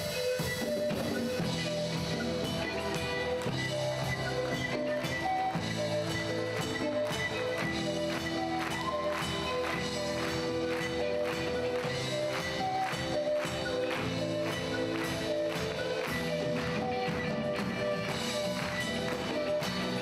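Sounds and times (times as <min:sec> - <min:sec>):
drum kit beat: 0:00.0 - 0:20.0
pan flutes: 0:00.0 - 0:20.0.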